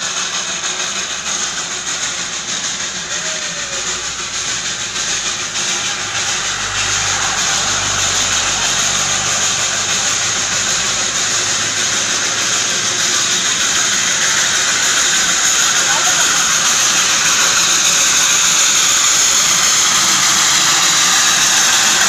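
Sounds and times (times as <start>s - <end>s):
train approaching with steady hiss: 0.0s - 22.0s
jeep engine humming past: 3.0s - 22.0s.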